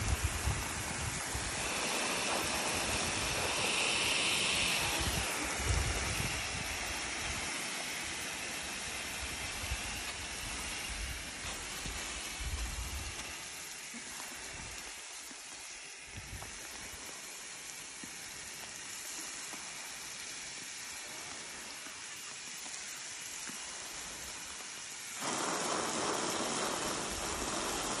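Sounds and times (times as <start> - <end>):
hose water spraying on soil: 0.0 - 28.0.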